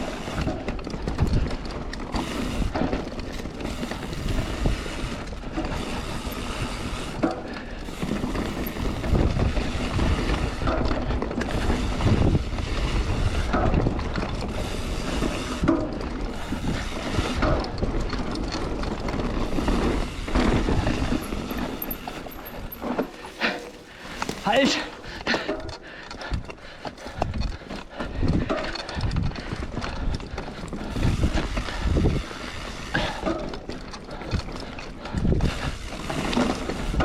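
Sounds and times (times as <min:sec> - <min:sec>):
bike knocks and rattles: 0:00.0 - 0:37.0
bike tyres rumbling on dirt: 0:00.0 - 0:37.0.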